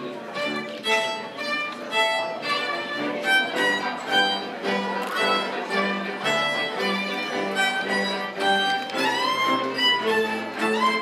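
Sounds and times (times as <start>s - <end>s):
fiddle playing a tune: 0.0s - 11.0s.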